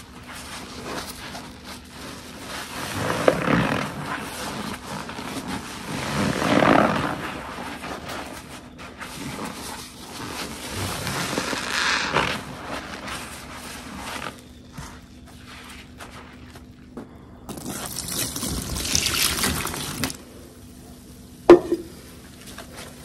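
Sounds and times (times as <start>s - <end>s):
sponge squelching: 0.0s - 16.7s, 17.6s - 20.2s.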